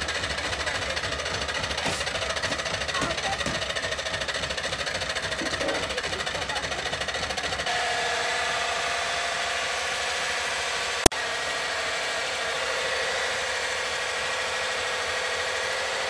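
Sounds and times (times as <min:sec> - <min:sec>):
grain mill motor running: 0:00.0 - 0:16.0.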